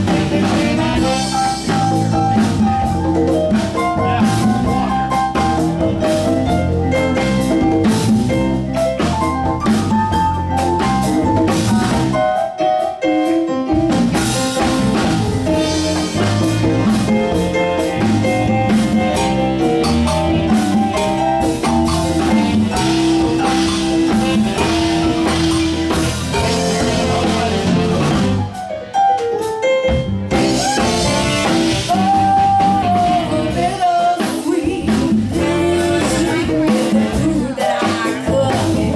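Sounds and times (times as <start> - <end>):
bass: 0.0 - 38.9
drums: 0.0 - 38.9
keyboard solo: 0.0 - 38.9.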